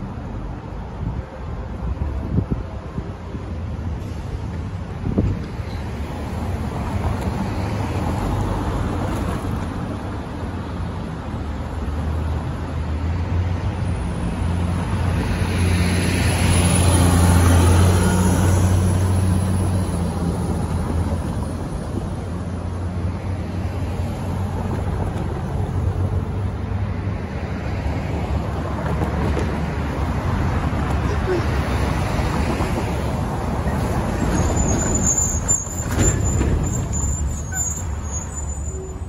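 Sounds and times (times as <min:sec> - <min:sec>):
cars driving by: 0:00.0 - 0:39.0.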